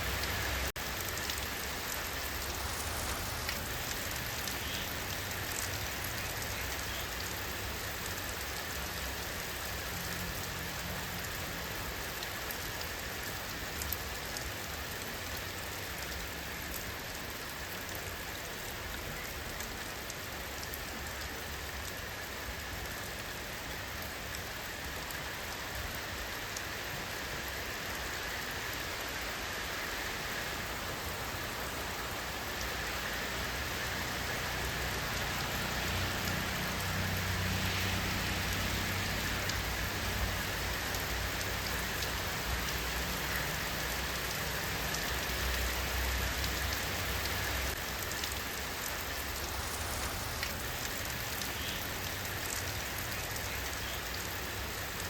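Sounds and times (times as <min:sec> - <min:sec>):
steady rainfall hiss: 0:00.0 - 0:55.0.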